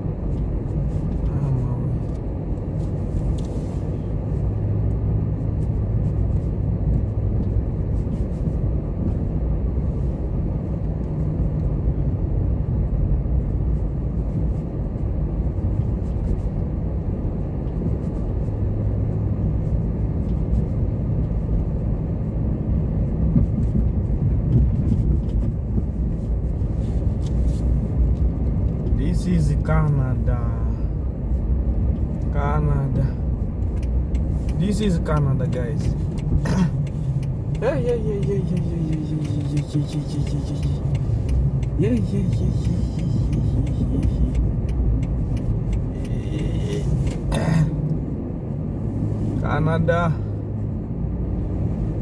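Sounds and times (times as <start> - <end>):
vehicle rumbling: 0.0 - 52.0.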